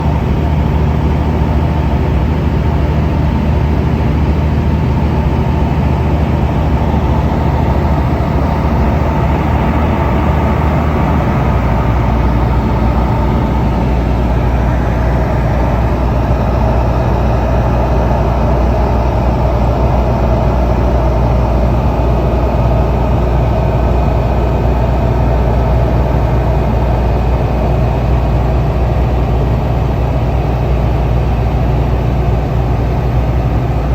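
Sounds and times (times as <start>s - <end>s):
light aircraft engine drone: 0.0s - 33.9s.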